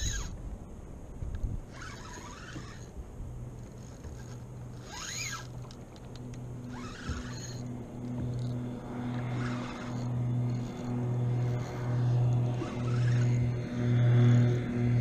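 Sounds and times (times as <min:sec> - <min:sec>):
low motor-like hum: 0:00.0 - 0:15.0.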